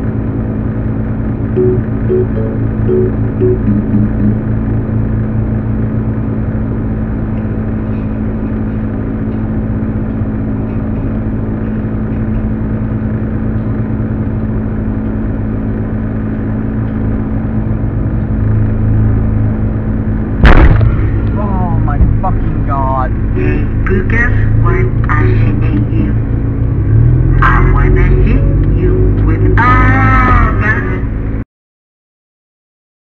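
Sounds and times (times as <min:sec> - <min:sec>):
car engine drone: 0:00.0 - 0:31.4
road noise inside car: 0:00.0 - 0:31.4.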